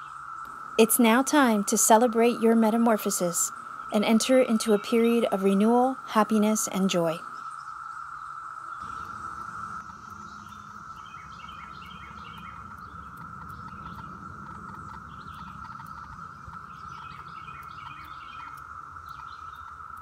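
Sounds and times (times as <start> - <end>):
cicada chorus hum: 0.0 - 20.0
songbird chirping: 0.0 - 20.0.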